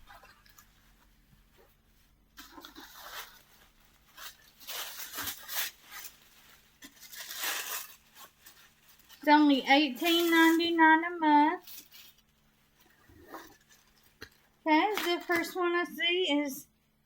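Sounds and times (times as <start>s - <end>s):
wrapping paper rustling: 0.0s - 15.8s.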